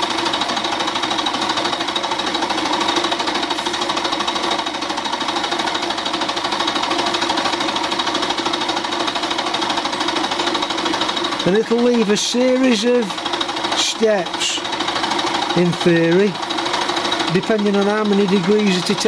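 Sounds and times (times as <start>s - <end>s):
milling machine cutting metal: 0.0s - 19.0s.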